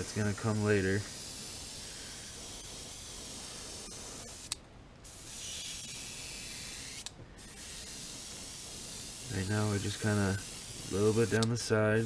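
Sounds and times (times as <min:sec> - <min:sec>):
airbrush spraying hiss: 0:00.0 - 0:12.0.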